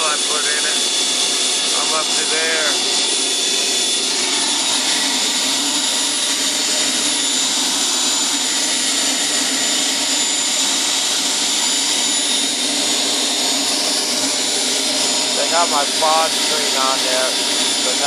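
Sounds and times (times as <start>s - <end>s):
jet turbine engine idling: 0.0s - 18.0s.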